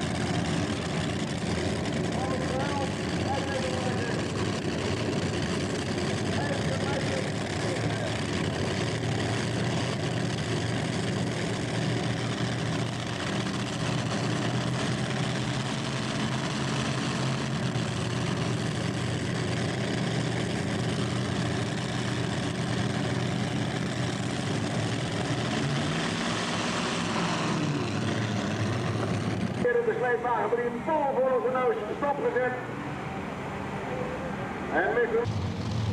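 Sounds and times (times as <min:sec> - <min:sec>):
tractor engine running flat out: 0:00.0 - 0:35.9.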